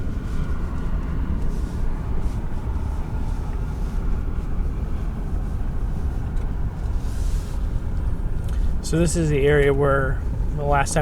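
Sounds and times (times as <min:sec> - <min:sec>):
truck engine and tyres rumbling: 0:00.0 - 0:11.0.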